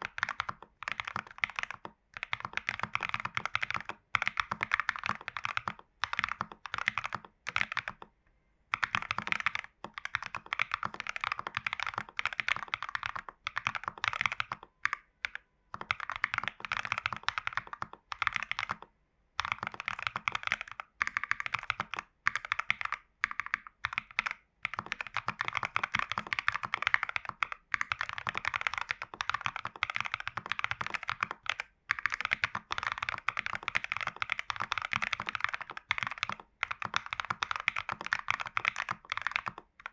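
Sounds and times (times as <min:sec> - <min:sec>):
mechanical keyboard typing: 0:00.0 - 0:08.1, 0:08.7 - 0:39.9.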